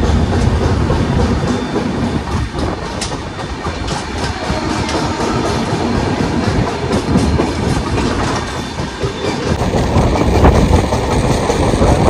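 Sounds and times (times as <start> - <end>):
train wheels rumbling and clacking: 0.0 - 12.0.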